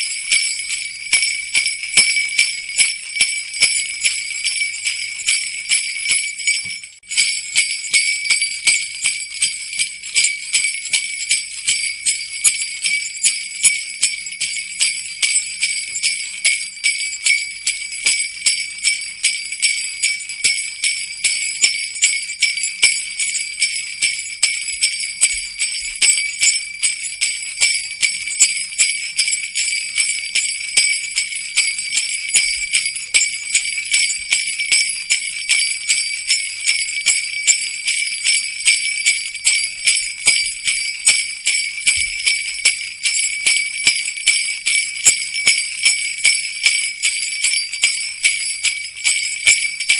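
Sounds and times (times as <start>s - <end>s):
sleigh bells jingling: 0.0s - 49.9s.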